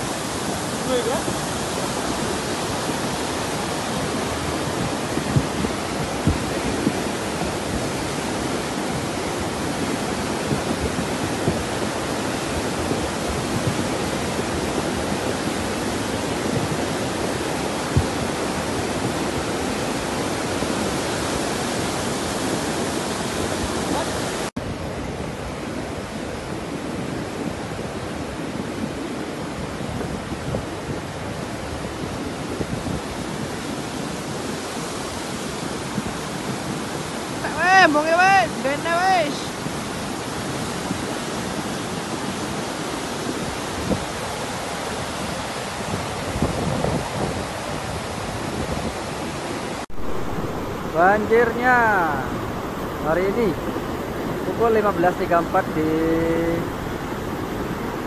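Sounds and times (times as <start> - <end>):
mudflow rushing down a river: 0.0 - 58.0.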